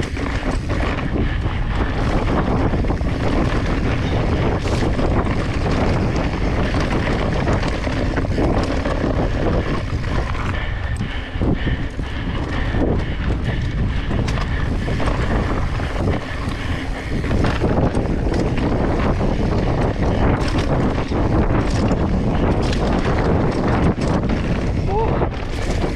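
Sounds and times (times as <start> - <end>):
tyres crunching over dirt: 0.0 - 10.7, 12.4 - 25.9
bike clattering over bumps: 0.0 - 25.9
wind buffeting microphone: 0.0 - 25.9.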